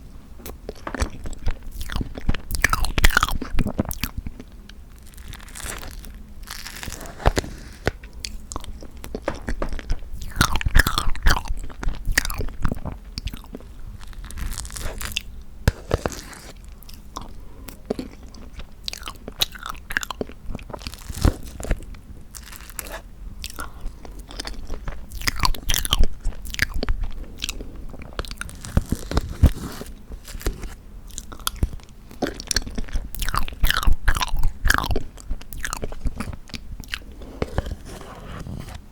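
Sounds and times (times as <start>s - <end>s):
wet sticky chewing: 0.4s - 21.8s, 22.4s - 37.8s.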